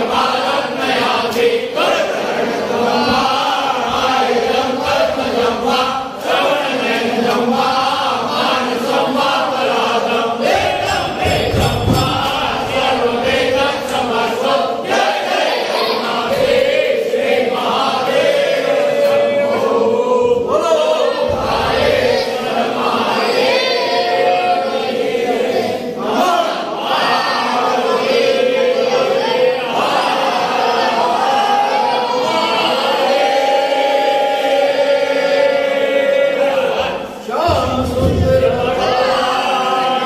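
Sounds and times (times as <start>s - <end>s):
group singing a hymn: 0.0s - 40.0s.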